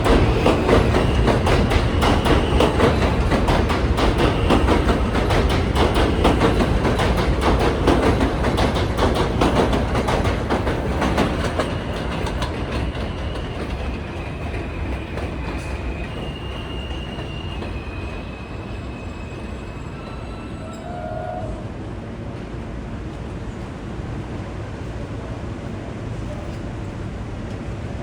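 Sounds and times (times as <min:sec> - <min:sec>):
subway train wheels clattering: 0:00.0 - 0:28.0.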